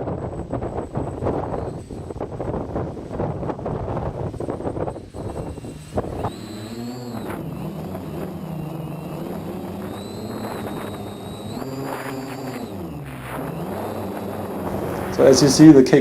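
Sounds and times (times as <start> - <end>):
quadcopter motors whirring: 0.0 - 16.0
wind buffeting microphone: 0.0 - 16.0.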